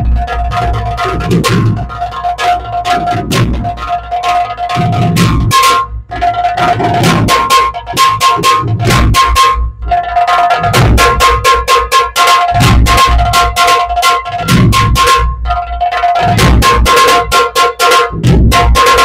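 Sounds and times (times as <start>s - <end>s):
deep dhol drum beats: 0.0s - 19.0s
sharp tasha drum strokes: 0.0s - 19.0s.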